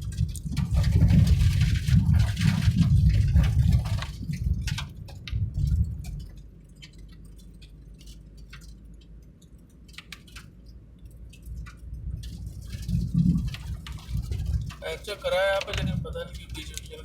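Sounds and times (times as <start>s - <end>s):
vehicle road rumble: 0.0s - 17.0s.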